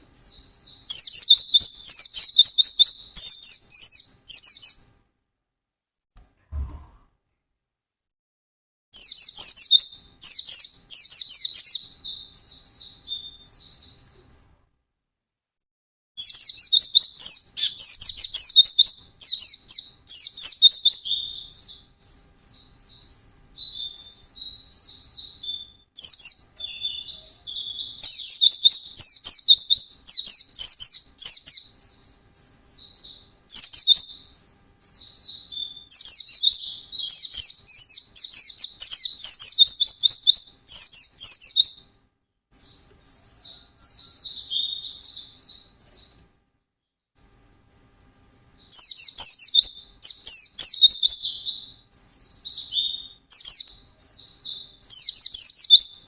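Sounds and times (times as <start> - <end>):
bird twittering song: 0.0 - 5.0, 8.9 - 14.5, 16.2 - 41.9, 42.5 - 56.0.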